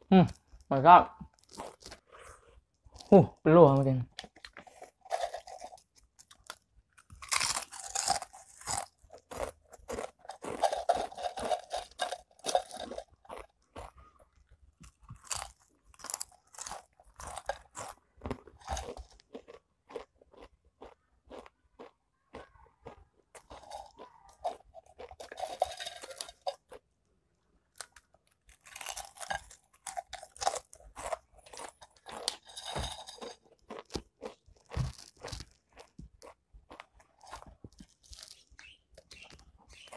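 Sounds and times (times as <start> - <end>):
crisps being crunched and chewed: 1.3 - 27.0, 27.7 - 39.9.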